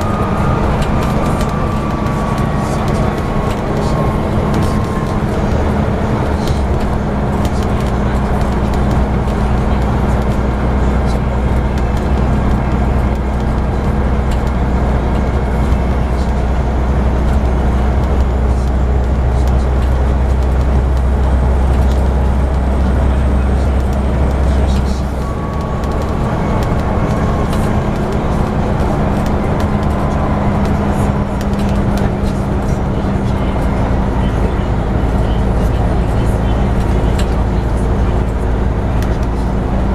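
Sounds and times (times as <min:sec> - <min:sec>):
bodywork rattles and ticks: 0:00.0 - 0:39.9
bus diesel engine drone: 0:00.0 - 0:39.9
road noise: 0:00.0 - 0:39.9.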